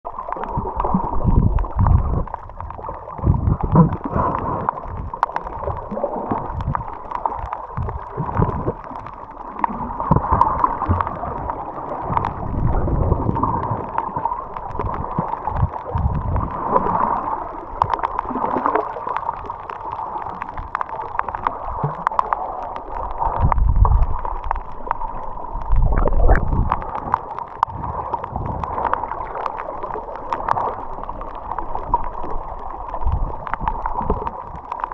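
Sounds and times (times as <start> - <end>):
underwater water surges: 0.0 - 34.9
faint clicks: 0.1 - 34.9.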